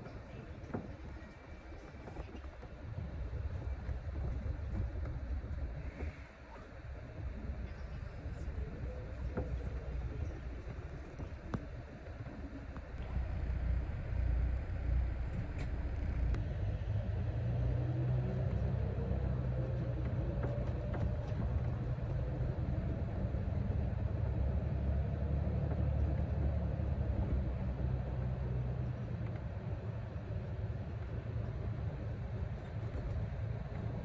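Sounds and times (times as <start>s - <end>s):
bus engine rumble and whine: 0.0s - 34.0s.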